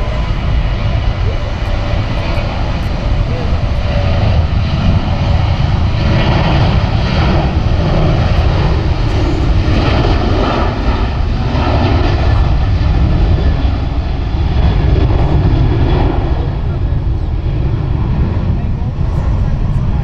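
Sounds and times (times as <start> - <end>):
jet airliner engines rumbling: 0.0 - 20.0.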